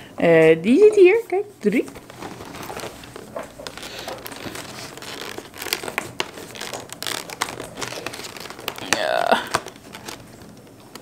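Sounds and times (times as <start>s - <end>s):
packaging crinkling: 1.9s - 11.0s.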